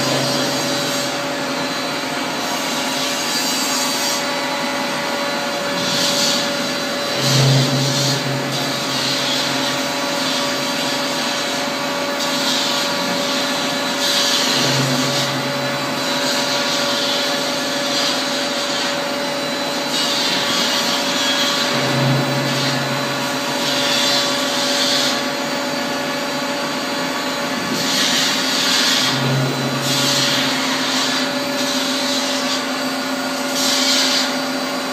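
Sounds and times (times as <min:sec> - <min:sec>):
mixer whine and hum: 0:00.0 - 0:34.9.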